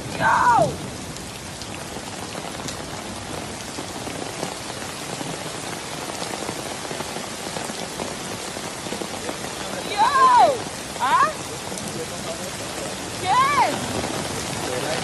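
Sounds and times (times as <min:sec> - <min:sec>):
heavy rain: 0:00.0 - 0:15.0
raindrop ticks: 0:00.9 - 0:15.0.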